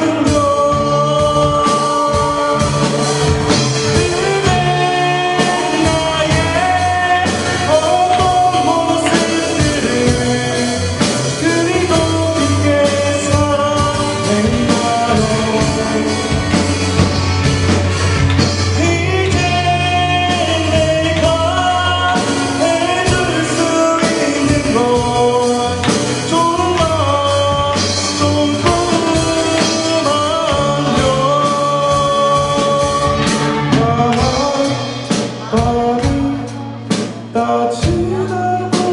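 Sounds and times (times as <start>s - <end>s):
live pop-rock band: 0.0s - 38.9s.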